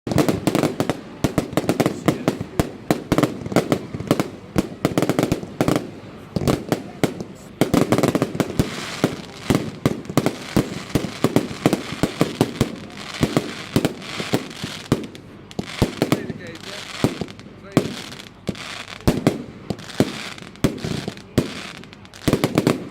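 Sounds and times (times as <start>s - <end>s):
fireworks banging: 0.0s - 22.9s
fireworks crackling: 0.1s - 22.9s.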